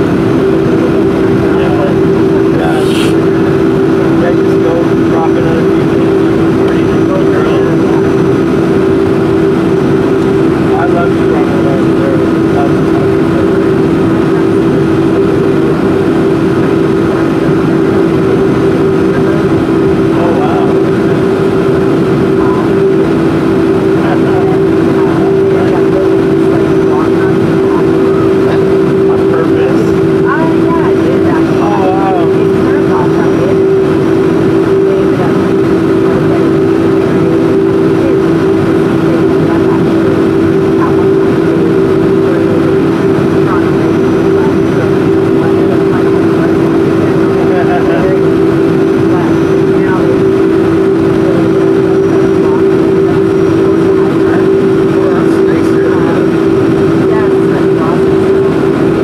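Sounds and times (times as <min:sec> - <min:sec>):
jet engines humming: 0:00.0 - 0:59.0.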